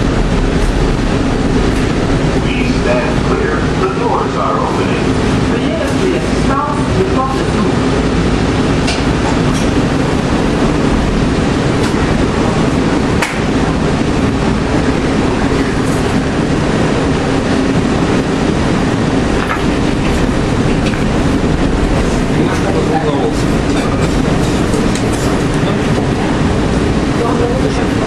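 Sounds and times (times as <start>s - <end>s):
train car rumbling: 0.0s - 28.0s.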